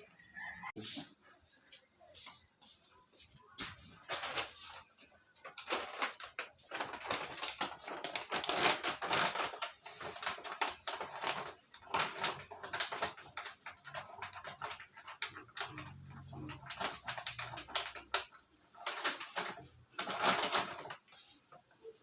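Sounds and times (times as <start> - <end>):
clothes and objects rustling: 0.8 - 22.0.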